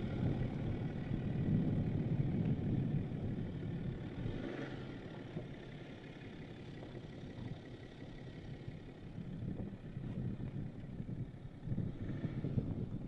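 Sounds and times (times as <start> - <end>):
diesel engine rumbling at low revs: 0.0 - 13.0.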